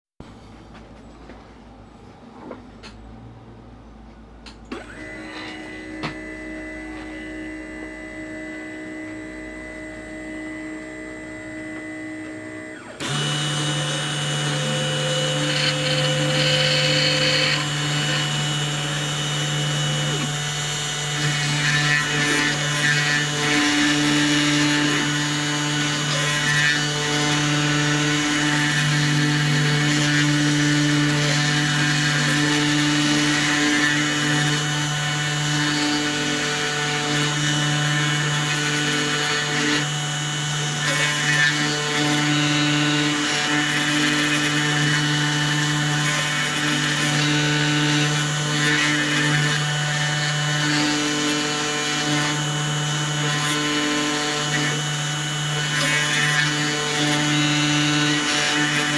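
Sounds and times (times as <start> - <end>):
router milling wood: 4.7 - 58.9.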